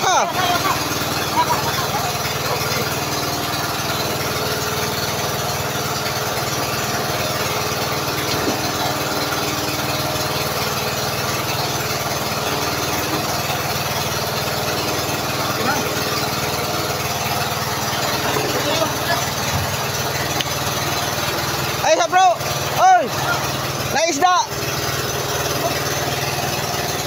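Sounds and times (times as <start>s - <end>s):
boat engine running: 0.0s - 27.0s.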